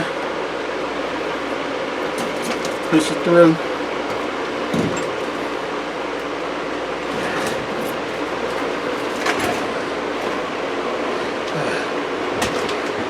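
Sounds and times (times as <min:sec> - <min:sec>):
cable knocking and scraping: 0:01.1 - 0:13.0.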